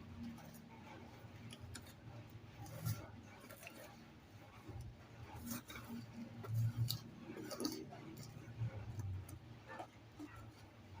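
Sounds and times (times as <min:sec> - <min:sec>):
utensil stirring batter: 0:00.0 - 0:11.0.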